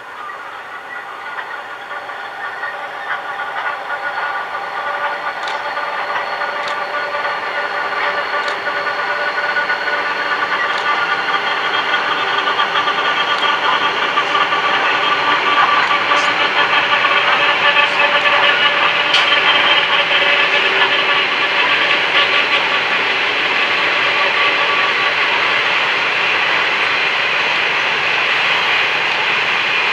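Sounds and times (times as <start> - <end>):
freight train passing: 0.0 - 29.9
locomotive humming tones: 0.0 - 29.9.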